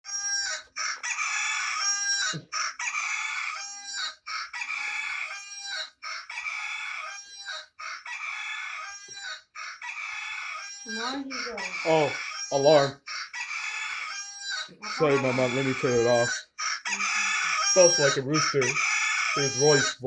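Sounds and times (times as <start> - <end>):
recorded rooster crowing alarm: 0.1 - 20.0.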